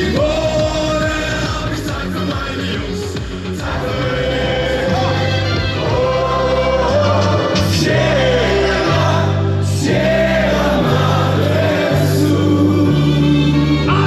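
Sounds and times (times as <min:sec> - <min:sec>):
gliding vocal melody: 0:00.0 - 0:14.0
sustained bass notes: 0:00.0 - 0:14.0.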